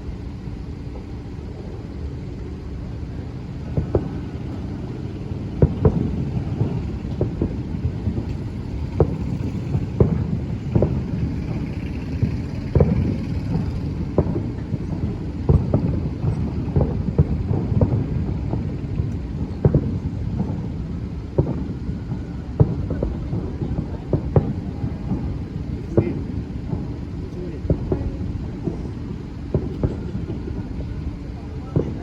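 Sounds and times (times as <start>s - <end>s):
fireworks bangs: 0.0s - 32.0s
low rumble: 0.0s - 32.0s.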